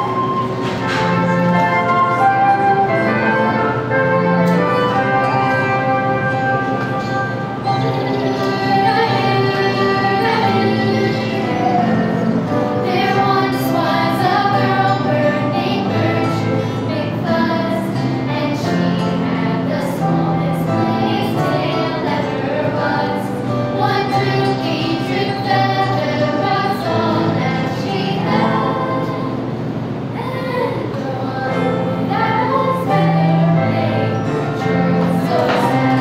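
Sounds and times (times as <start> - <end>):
accompaniment held notes: 0.0 - 36.0
girls singing together: 0.0 - 36.0.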